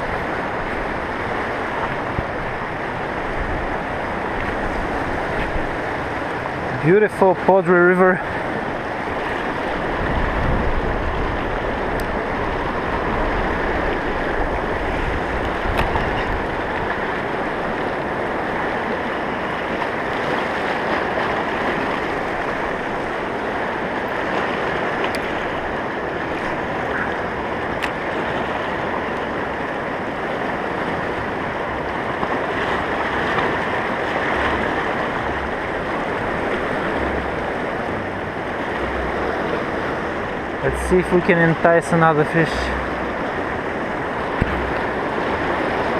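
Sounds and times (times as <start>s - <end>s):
river rushing over rocks: 0.0s - 45.9s.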